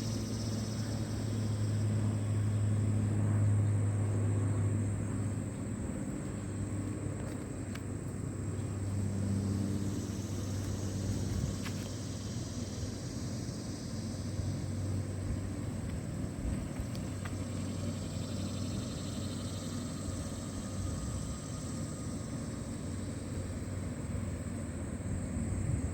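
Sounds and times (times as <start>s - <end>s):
distant traffic rumble: 0.0s - 25.9s.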